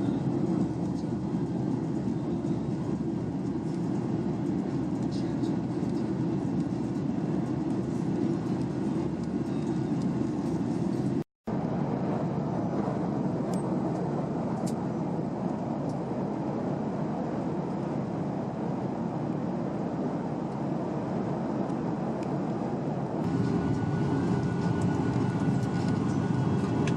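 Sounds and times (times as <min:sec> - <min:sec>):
aircraft engine rumble: 0:00.0 - 0:26.9
airflow in cabin: 0:00.0 - 0:26.9.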